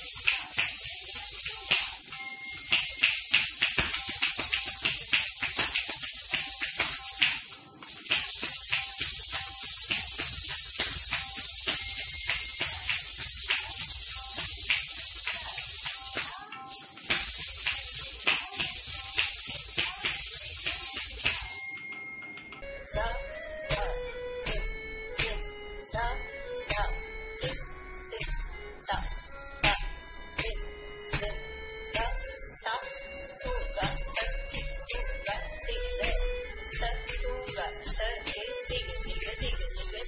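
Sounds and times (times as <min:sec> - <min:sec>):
ankle bells jingling: 0:00.0 - 0:40.0
faint repeating melody: 0:00.8 - 0:40.0.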